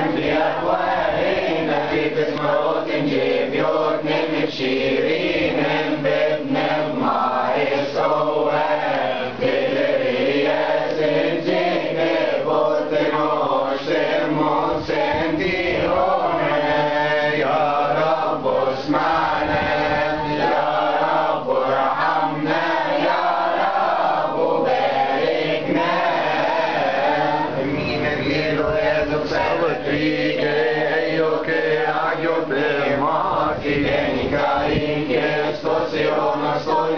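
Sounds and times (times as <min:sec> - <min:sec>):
group of voices chanting in unison: 0:00.0 - 0:36.9.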